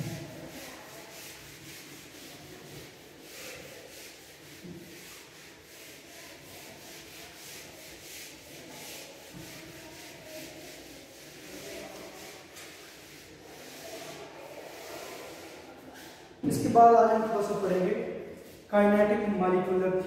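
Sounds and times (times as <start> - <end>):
eraser rubbing on whiteboard: 0.0 - 16.4, 18.4 - 18.7.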